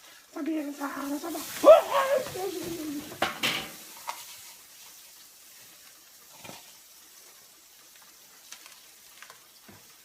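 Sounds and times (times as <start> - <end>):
hamburgers sizzling in a pan: 0.0 - 10.0.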